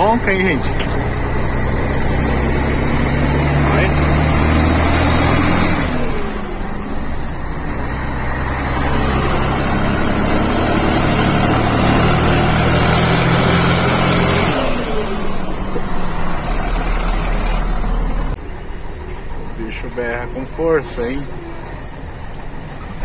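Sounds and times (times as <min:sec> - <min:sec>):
diesel truck engine roaring: 0:00.0 - 0:23.0.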